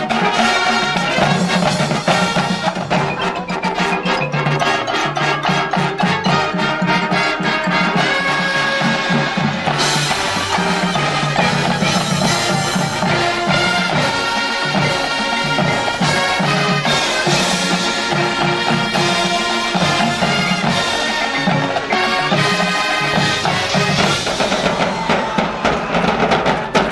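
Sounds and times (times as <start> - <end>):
brass chords: 0.0 - 26.9
drum line beat: 0.0 - 26.9.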